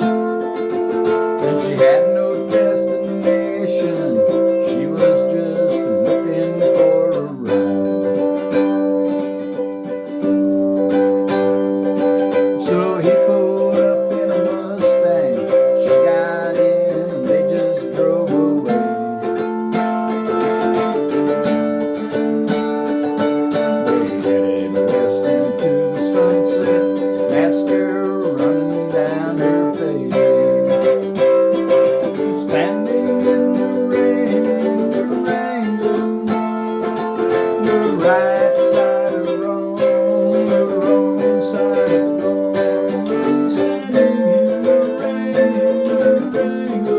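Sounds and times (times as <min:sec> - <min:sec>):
mandolin strummed chords: 0:00.0 - 0:46.9.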